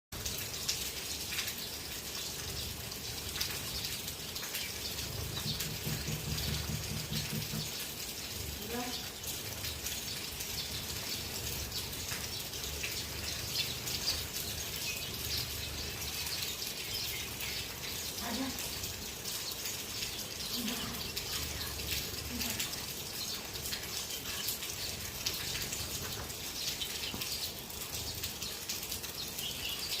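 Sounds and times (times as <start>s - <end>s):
sparrows chirping: 1.5s - 30.0s.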